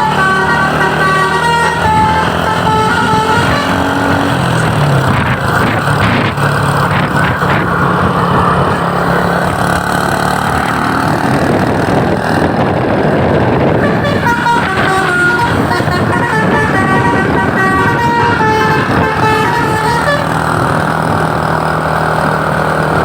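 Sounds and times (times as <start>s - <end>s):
heavy vehicle engine droning: 0.0s - 23.0s
road and wind noise: 0.0s - 23.0s.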